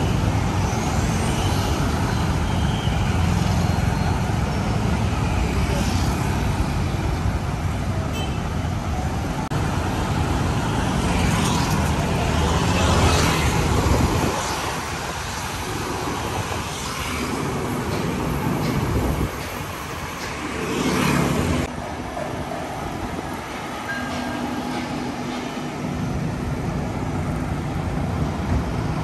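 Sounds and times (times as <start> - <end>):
rumble of passing vehicles: 0.0 - 29.0.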